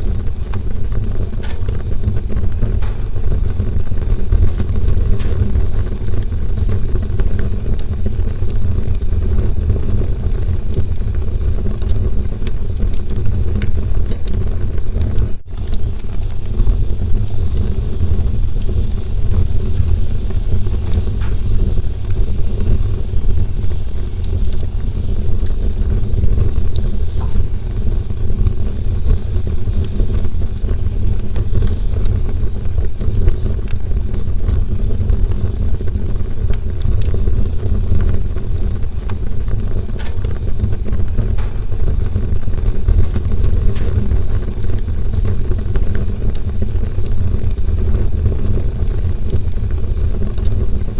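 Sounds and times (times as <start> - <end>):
campfire low rumble: 0.0 - 50.9
crackles and pops of burning wood: 0.0 - 50.9.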